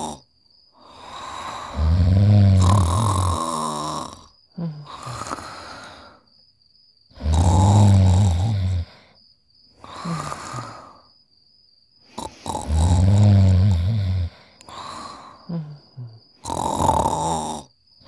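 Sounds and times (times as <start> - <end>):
cartoon snoring: 0.0 - 6.2, 7.1 - 9.2, 9.8 - 11.0, 12.1 - 17.8.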